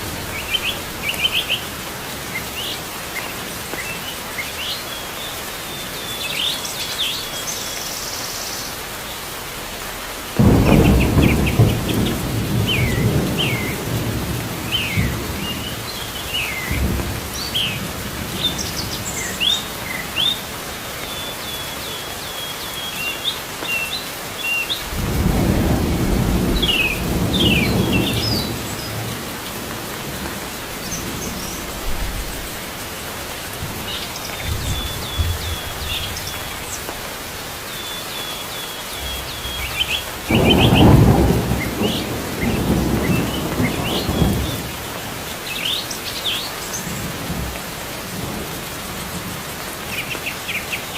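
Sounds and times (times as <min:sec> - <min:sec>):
steady hiss like rain: 0:00.0 - 0:50.9
small birds chirping: 0:00.3 - 0:09.3, 0:10.5 - 0:25.6, 0:26.4 - 0:29.1, 0:30.7 - 0:44.8.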